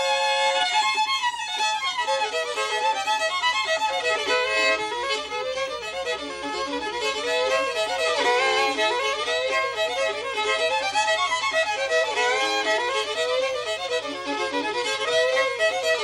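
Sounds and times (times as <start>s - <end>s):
two fiddles playing a tune: 0.0s - 16.0s.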